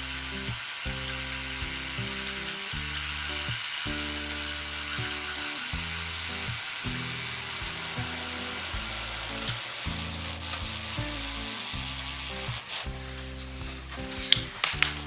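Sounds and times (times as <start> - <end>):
music with low sustained chords: 0.0 - 15.0
reciprocating saw cutting bamboo: 0.0 - 15.0.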